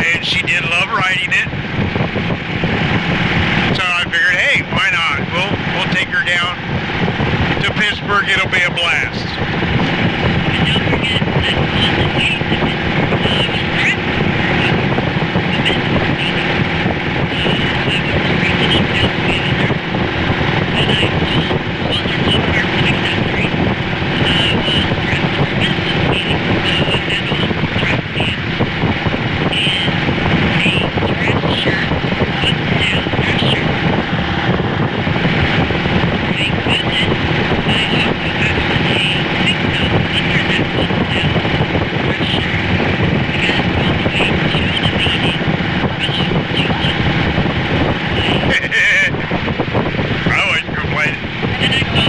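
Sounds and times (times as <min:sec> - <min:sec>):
motorcycle engine drone: 0:00.0 - 0:52.0
road and wind noise: 0:00.0 - 0:52.0.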